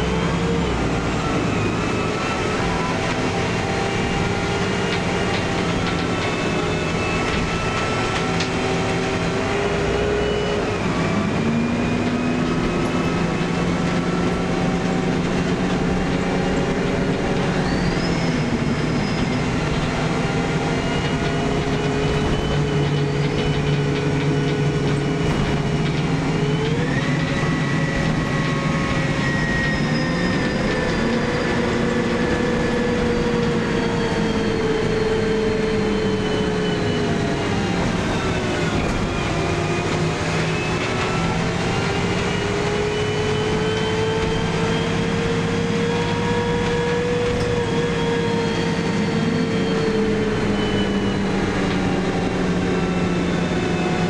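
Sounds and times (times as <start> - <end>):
bus engine running: 0.0 - 54.0
road noise rumble: 0.0 - 54.0
whining tones: 0.0 - 54.0.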